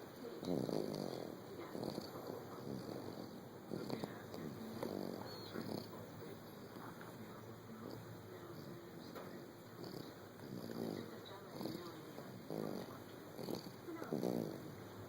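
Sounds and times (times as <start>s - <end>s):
puppy snoring: 0.4s - 7.2s, 7.8s - 15.0s.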